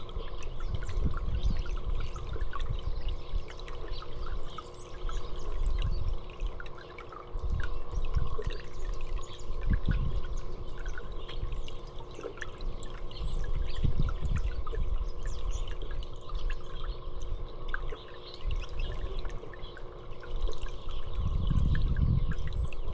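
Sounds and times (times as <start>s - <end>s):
wind rumble on microphone: 0.0s - 4.4s, 5.1s - 6.6s, 7.4s - 11.7s, 12.7s - 19.3s, 20.3s - 22.9s
water trickling and dripping: 0.0s - 22.9s.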